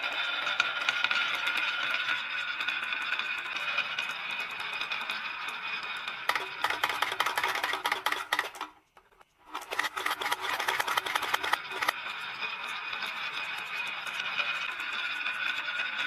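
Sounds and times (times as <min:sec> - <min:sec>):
marbles clattering down wooden run: 0:00.0 - 0:08.7, 0:09.5 - 0:16.0
marbles rolling rumble: 0:00.0 - 0:16.0.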